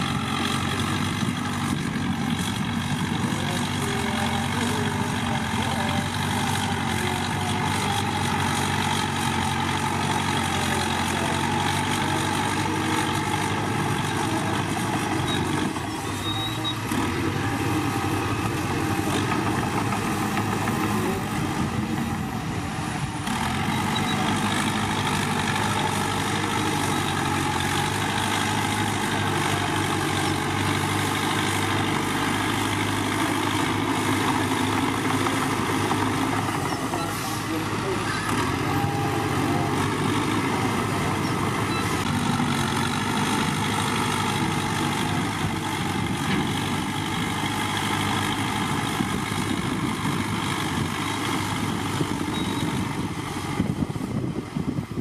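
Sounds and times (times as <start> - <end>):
bulldozer diesel engines running: 0.0 - 55.0.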